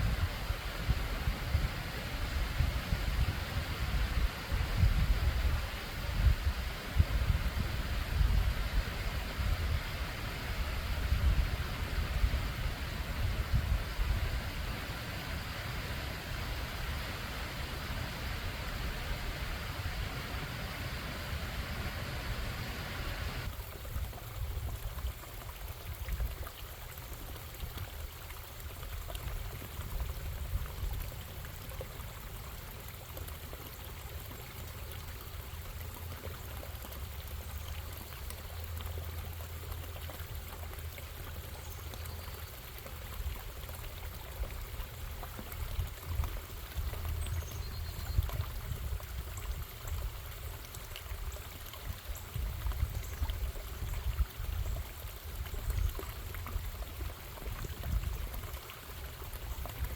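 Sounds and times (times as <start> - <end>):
stream running over rocks: 0.0 - 59.9
water trickling and dripping: 0.0 - 59.9.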